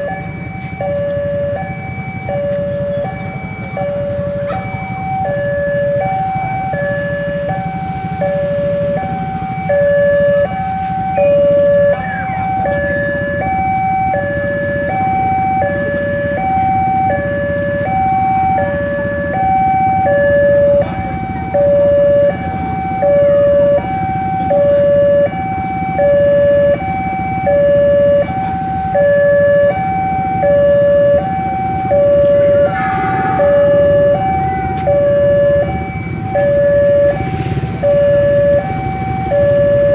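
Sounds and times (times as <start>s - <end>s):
low rumble of traffic: 0.0s - 39.9s
two-tone crossing alarm: 0.0s - 39.9s.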